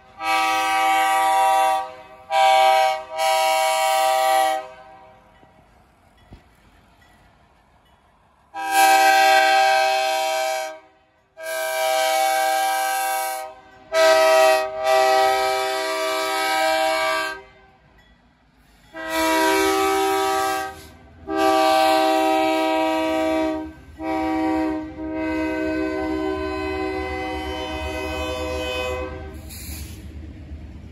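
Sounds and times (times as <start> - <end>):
locomotive air horn: 0.0 - 5.2, 8.6 - 17.8, 18.9 - 30.0.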